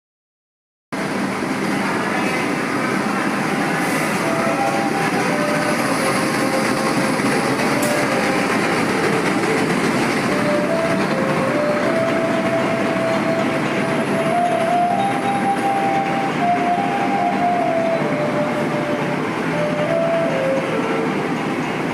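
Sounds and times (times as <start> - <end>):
moving train noise: 1.0 - 21.9.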